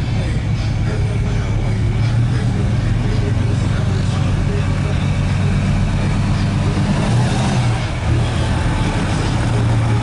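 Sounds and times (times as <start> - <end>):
car engine deep rumble: 0.0 - 10.0.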